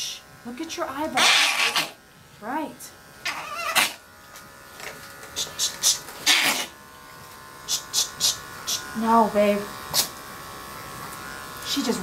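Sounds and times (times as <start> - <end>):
electric clipper buzzing: 0.0 - 12.0.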